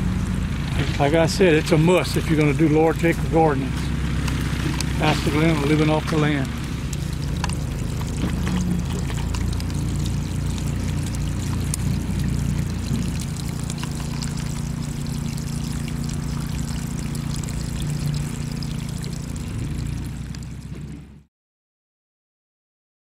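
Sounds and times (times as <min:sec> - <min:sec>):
low hum: 0:00.0 - 0:21.2
water gushing from hose: 0:00.0 - 0:21.2.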